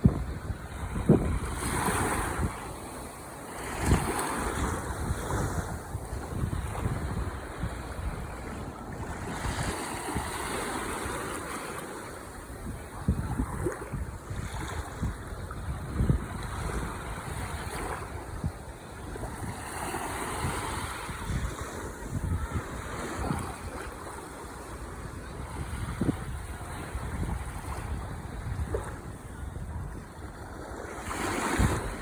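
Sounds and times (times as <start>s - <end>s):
ocean waves washing ashore: 0.0s - 32.0s
wind buffeting microphone: 0.0s - 32.0s.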